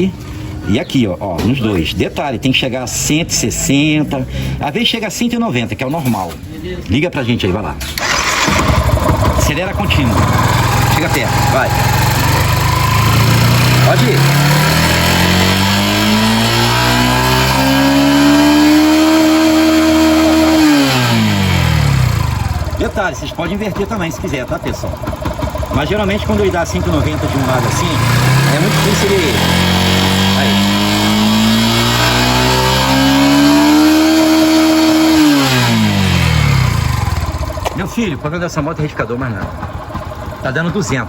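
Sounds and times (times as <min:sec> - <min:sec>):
motorcycle engine revving: 0:07.8 - 0:41.0.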